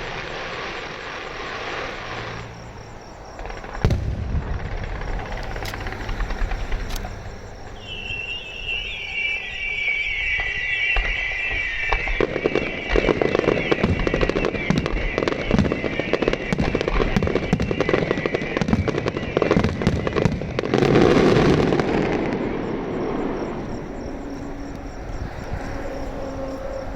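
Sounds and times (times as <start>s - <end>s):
fireworks crackling pops: 0.0s - 24.9s
whistling fireworks: 0.0s - 26.9s.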